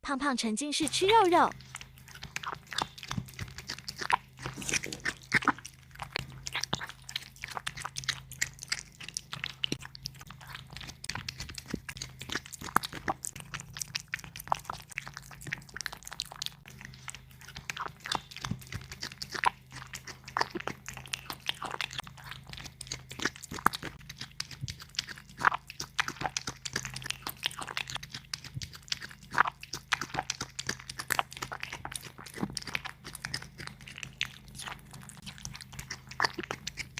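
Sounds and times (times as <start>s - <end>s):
cat chewing meat: 0.8s - 36.9s.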